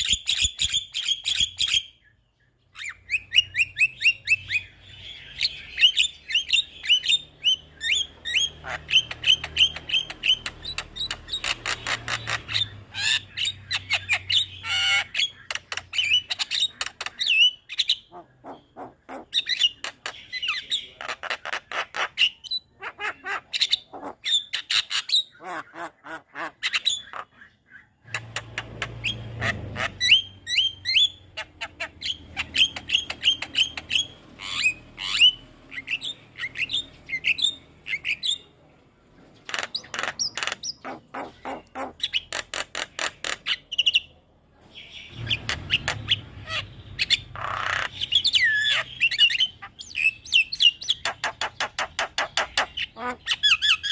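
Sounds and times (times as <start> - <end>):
myna bird singing: 0.0 - 53.9.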